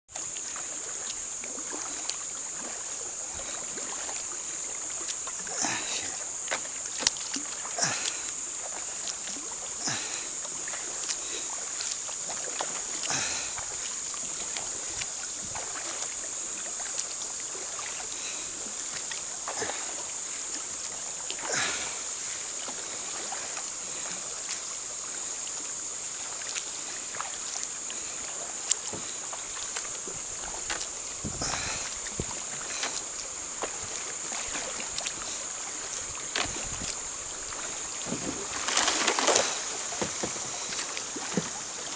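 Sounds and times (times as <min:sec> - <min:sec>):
paddle splashing in river water: 0:00.1 - 0:41.9
steady high-pitched hiss: 0:00.1 - 0:41.9.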